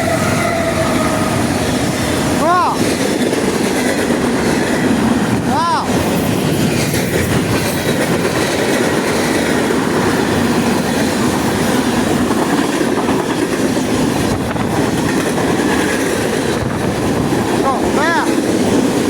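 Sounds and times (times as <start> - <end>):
freight train wheels rattling: 0.0 - 19.0.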